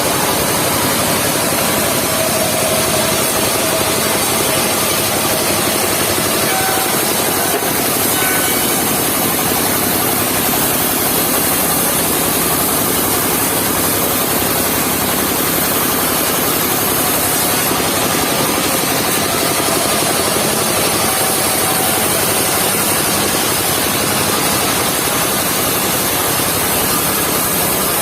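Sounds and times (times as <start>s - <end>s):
sawmill engine running: 0.0s - 28.0s
saw blade cutting log: 0.8s - 24.7s.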